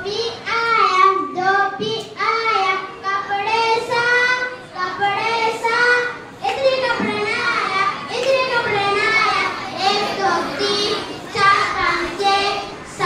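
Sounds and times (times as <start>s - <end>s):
boy singing into a microphone: 0.0s - 13.0s.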